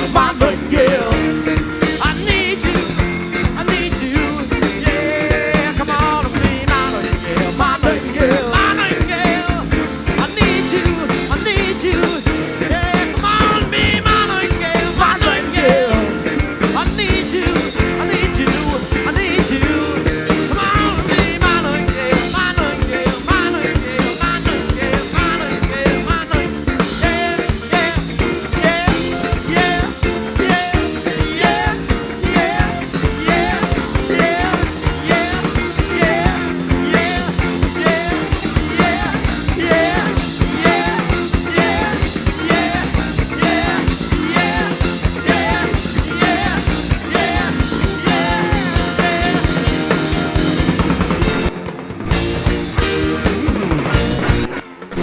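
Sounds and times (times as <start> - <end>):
bass: 0.0 - 55.0
drum kit fast beat: 0.0 - 55.0
electric guitar: 0.0 - 55.0
keyboards: 0.0 - 55.0.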